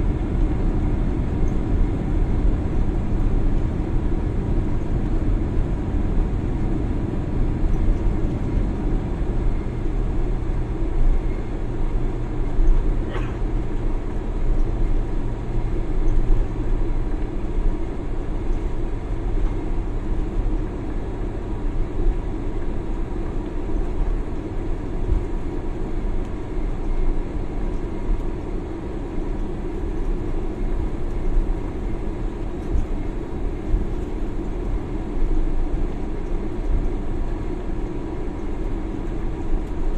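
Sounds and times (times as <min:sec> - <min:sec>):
airliner cabin rumble: 0:00.0 - 0:39.9
low hum: 0:00.0 - 0:39.9.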